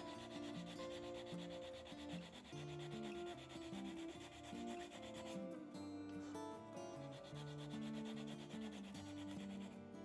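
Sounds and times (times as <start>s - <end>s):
sandpaper rubbing wood: 0.0s - 5.6s, 6.9s - 9.8s
background music: 0.0s - 10.0s.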